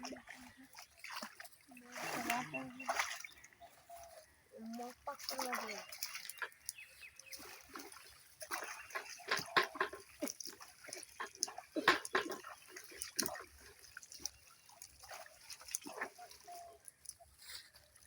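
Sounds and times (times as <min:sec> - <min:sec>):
water splashing and dripping: 0:00.0 - 0:18.0.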